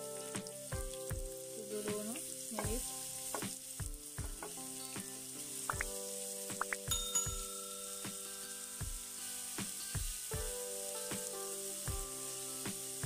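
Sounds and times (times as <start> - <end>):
background music with steady beat: 0.0 - 13.0
onions sizzling in oil: 0.0 - 13.0.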